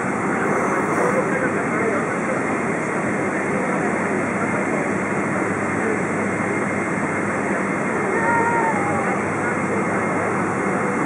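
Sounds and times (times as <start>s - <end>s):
jet engine and cabin noise: 0.0s - 11.0s.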